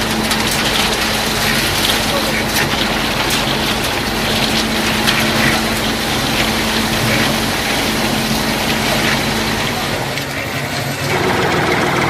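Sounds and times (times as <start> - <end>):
gritty rattling: 0.0 - 12.0.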